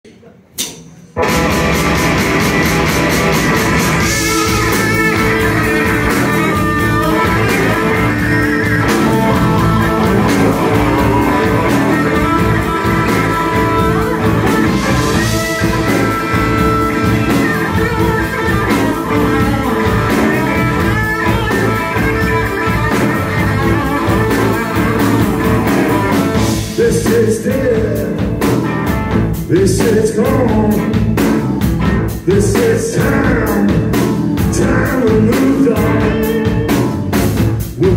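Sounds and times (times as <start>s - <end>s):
drum kit beat: 0.6s - 37.9s
bass guitar: 0.8s - 37.9s
electric guitars: 1.2s - 37.9s.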